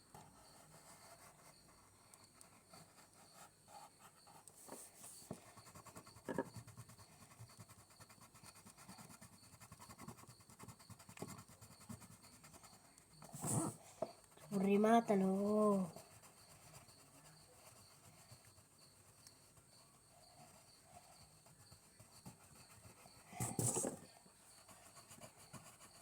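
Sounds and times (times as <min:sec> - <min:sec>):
pen scratching on paper: 0:00.1 - 0:26.0.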